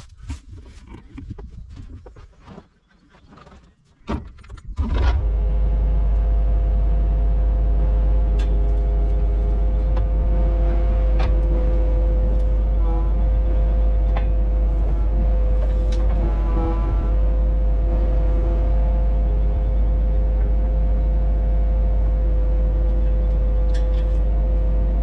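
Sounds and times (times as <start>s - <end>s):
engine starting and running: 4.1s - 25.0s.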